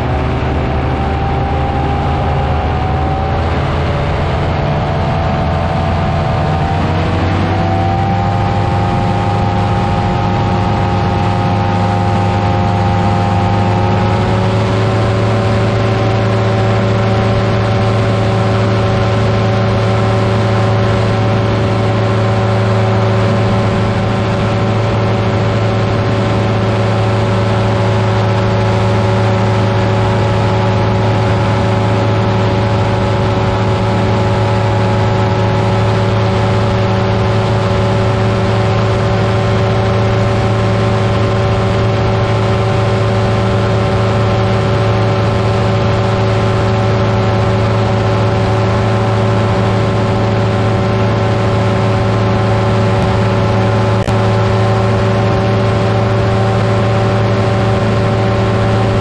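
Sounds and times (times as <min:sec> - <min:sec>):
engine and propeller drone: 0:00.0 - 0:59.0.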